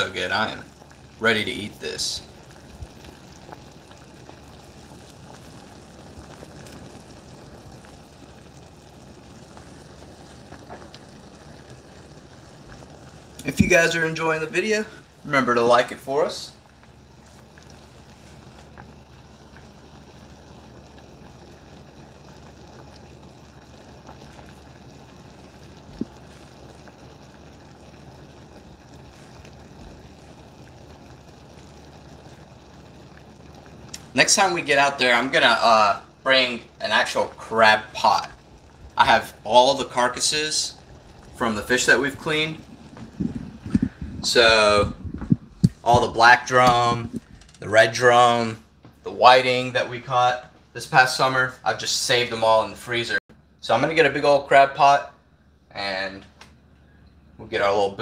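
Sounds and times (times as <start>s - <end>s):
water boiling in a pot: 0.0s - 58.0s.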